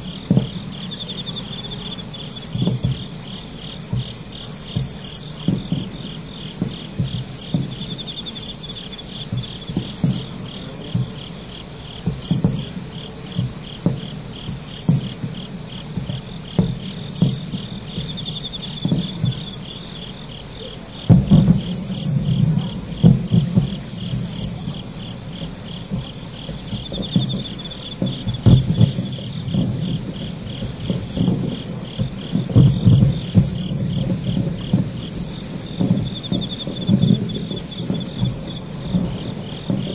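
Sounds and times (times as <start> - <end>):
distant fireworks bursting: 0.0 - 39.9
night insects chirping: 0.0 - 39.9.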